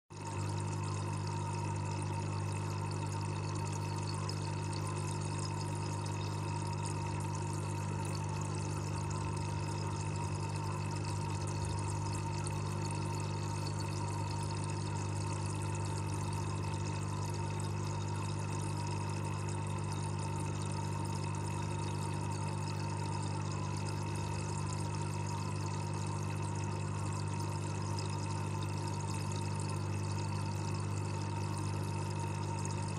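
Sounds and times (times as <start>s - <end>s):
air bubbles streaming underwater: 0.1s - 32.9s
faint steady whine: 0.2s - 32.9s.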